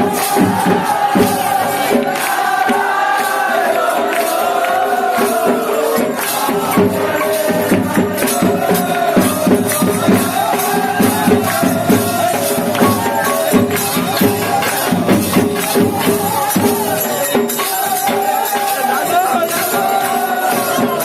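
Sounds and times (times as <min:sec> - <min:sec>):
percussion rhythm: 0:00.0 - 0:21.0
voices singing a chant-like melody: 0:00.0 - 0:21.0.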